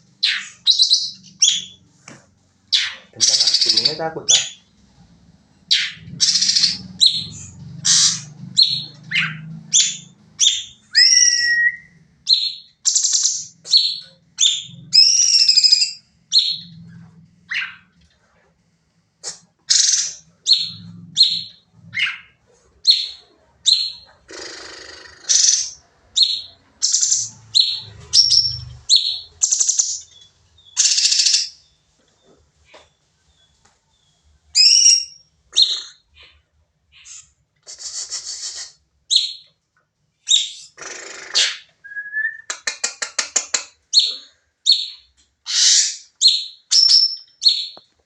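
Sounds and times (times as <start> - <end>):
bird chirping loudly: 0.2 - 1.9, 2.7 - 4.7, 5.7 - 16.9, 17.5 - 17.9, 19.2 - 31.7, 34.6 - 39.5, 40.3 - 42.5, 43.9 - 47.8.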